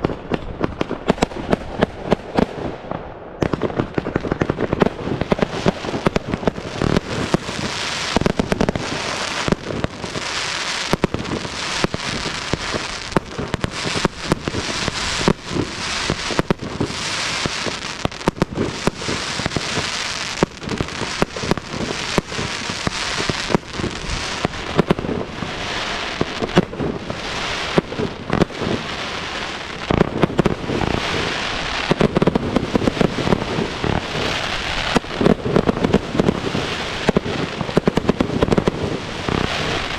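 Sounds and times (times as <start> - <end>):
fireworks hissing crackle: 0.0 - 39.9
fireworks pops and bangs: 0.0 - 39.9.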